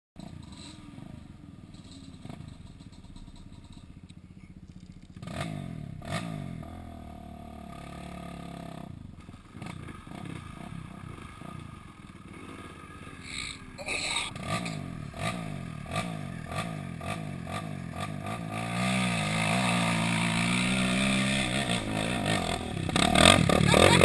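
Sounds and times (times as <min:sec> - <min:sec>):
atv engine revving: 0:00.2 - 0:24.0.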